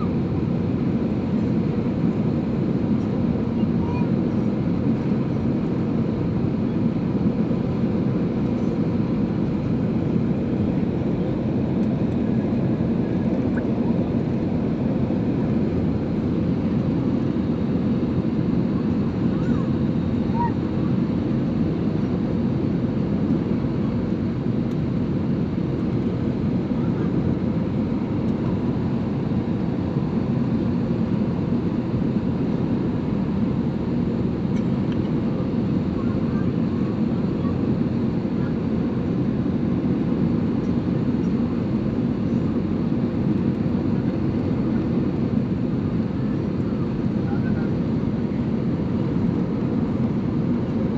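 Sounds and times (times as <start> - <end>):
airliner engine rumble: 0.0 - 50.9.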